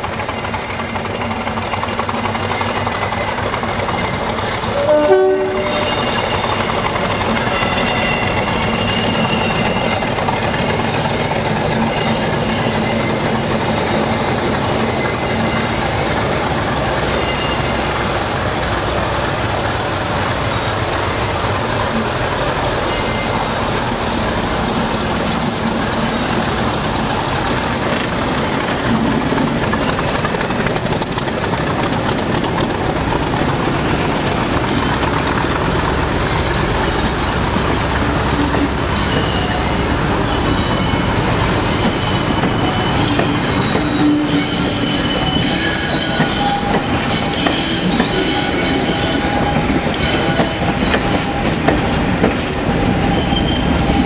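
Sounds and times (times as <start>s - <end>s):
diesel locomotive engine rumble: 0.0s - 54.0s
train wheels squealing: 0.0s - 54.0s
high-pitched whistling tones: 0.4s - 54.0s.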